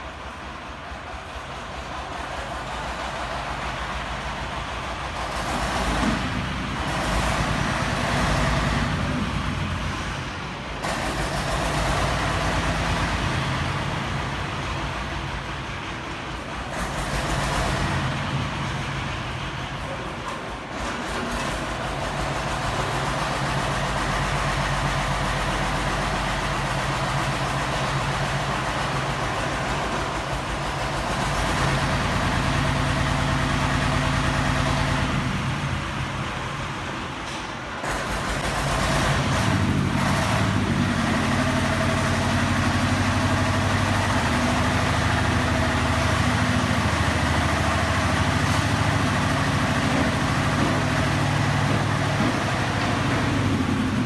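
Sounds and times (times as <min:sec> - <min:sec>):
concrete mixer engine running: 0:00.0 - 0:54.0.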